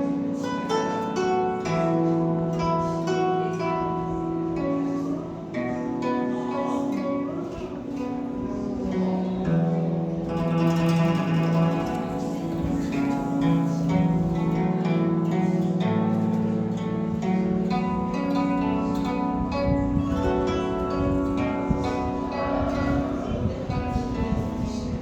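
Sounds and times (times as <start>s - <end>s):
plucked zither melody: 0.0s - 25.0s.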